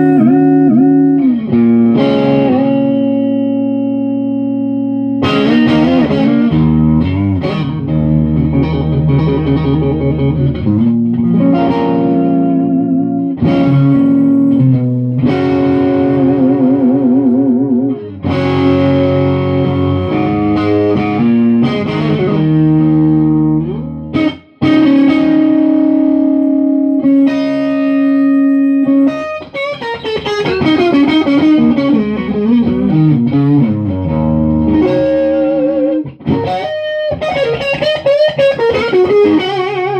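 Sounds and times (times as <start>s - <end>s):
electric guitar with vibrato: 0.0s - 39.9s.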